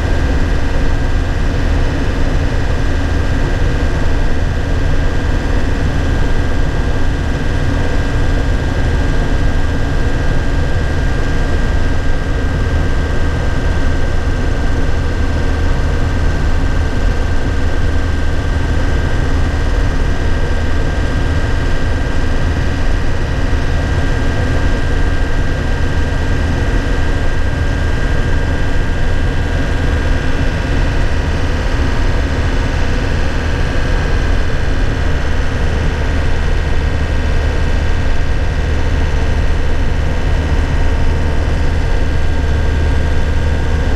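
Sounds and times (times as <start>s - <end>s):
high whine: 0.0s - 43.9s.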